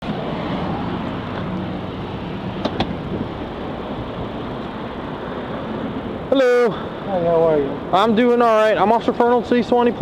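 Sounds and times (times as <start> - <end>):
vehicle and road noise: 0.0 - 10.0.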